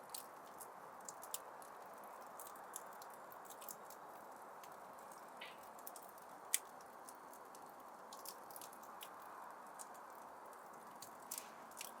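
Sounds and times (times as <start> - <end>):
wood fire crackling: 0.0 - 12.0
fire pops and snaps: 0.1 - 12.0.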